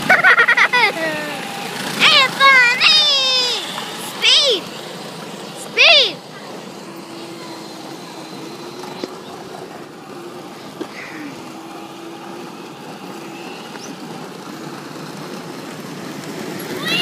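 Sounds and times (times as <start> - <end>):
electric toy car motors whirring: 0.0 - 17.0.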